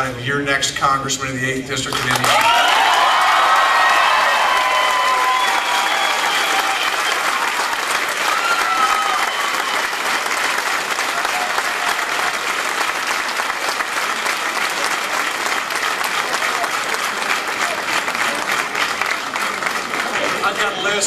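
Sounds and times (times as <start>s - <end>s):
crowd applauding: 1.9s - 21.0s.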